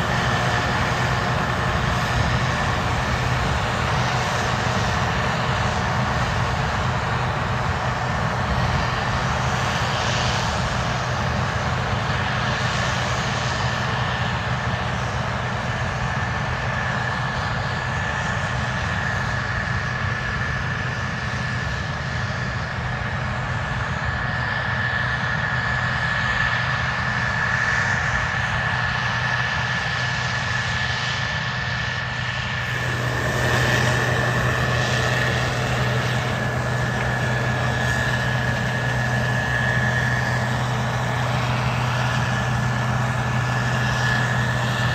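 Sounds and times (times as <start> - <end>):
combine harvester machinery drone: 0.0 - 44.9
high machinery whine: 0.0 - 44.9.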